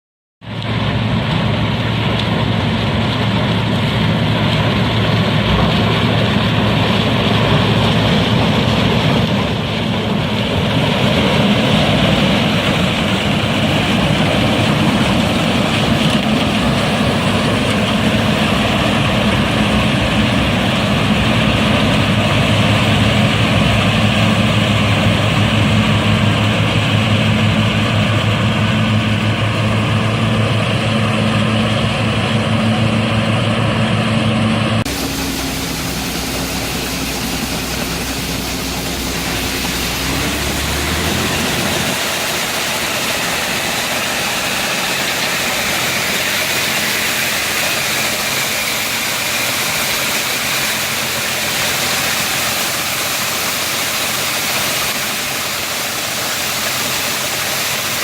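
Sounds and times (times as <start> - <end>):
combine harvester engine hum: 0.4 - 58.0
threshing machinery churning: 0.4 - 58.0.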